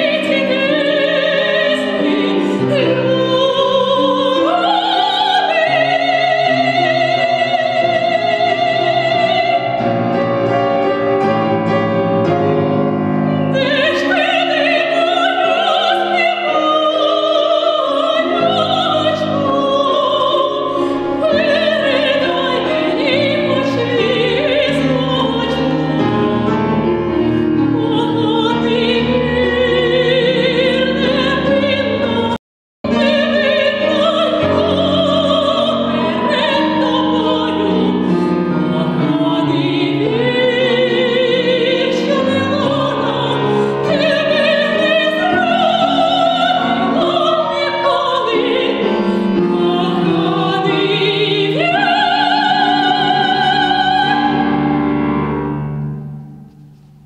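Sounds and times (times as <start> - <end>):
woman singing opera: 0.0 - 10.5, 13.3 - 55.1
grand piano: 0.0 - 57.0.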